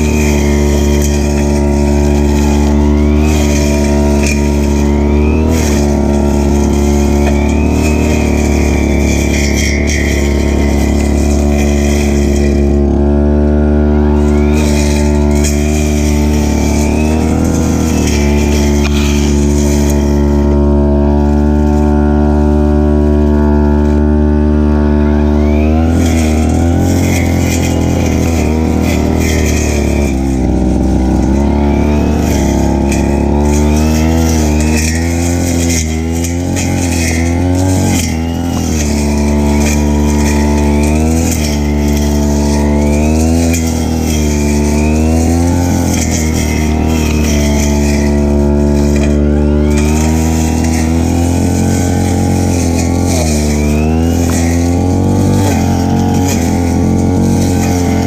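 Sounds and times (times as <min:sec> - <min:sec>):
brush cutter engine cutting grass: 0:00.0 - 0:58.0.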